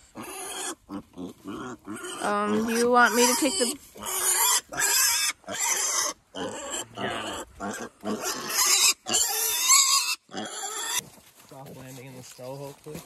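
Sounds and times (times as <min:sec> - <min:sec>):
piglet squealing shrilly: 0:00.2 - 0:11.0.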